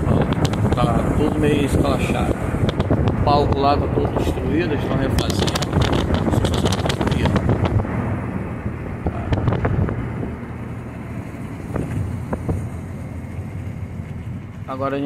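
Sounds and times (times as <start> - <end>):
wind rushing over microphone: 0.0 - 14.7
car engine and tyres: 0.0 - 15.0.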